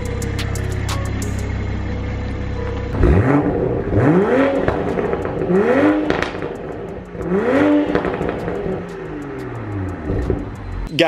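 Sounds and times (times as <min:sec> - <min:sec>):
car engine starting and revving: 0:00.0 - 0:10.9.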